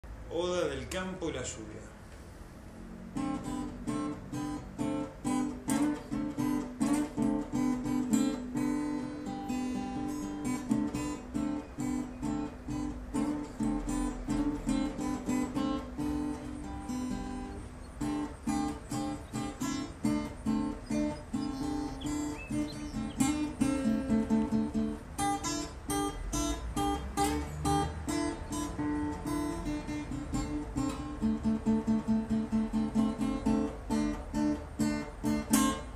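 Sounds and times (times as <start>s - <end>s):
acoustic guitar piece: 1.9s - 35.9s.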